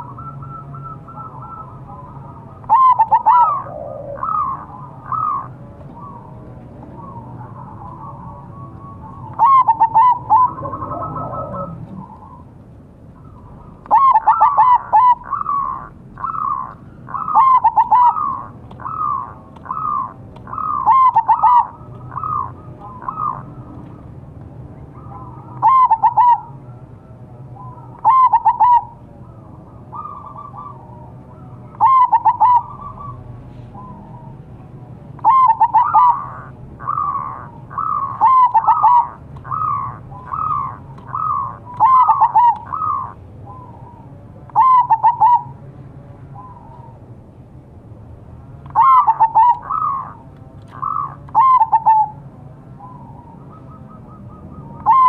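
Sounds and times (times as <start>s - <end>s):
dove cooing: 0.0s - 12.5s, 13.2s - 24.0s, 24.9s - 34.4s, 35.2s - 45.6s, 48.7s - 52.2s, 52.8s - 55.0s.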